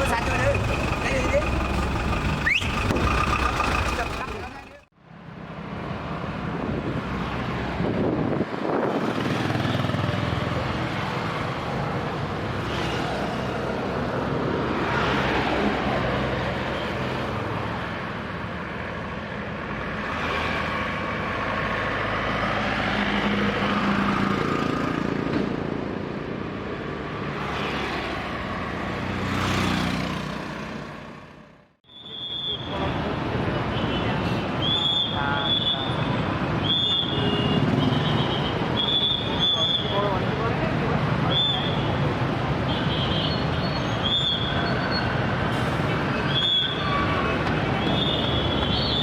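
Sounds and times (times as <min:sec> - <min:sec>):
vehicles passing by: 0:00.0 - 0:31.8, 0:32.6 - 0:49.0
traffic hum and tyre noise: 0:00.0 - 0:49.0.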